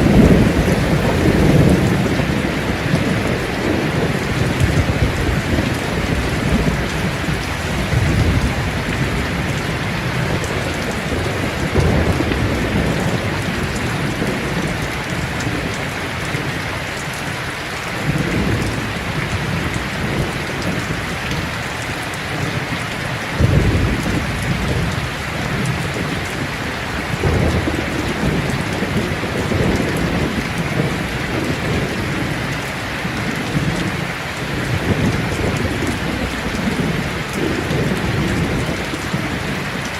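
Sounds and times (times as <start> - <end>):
thunder rolling: 0.0 - 16.5, 23.4 - 39.7
heavy rain pouring: 0.0 - 39.9.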